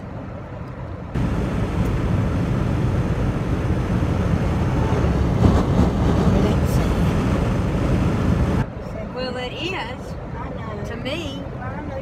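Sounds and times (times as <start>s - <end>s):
road and wind rumble in car: 0.0s - 12.0s.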